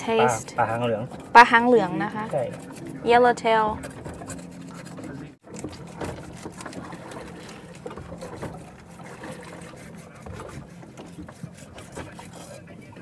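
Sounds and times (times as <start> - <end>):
boat engine hum: 0.0 - 13.0
knife scraping fish on board: 1.1 - 12.7.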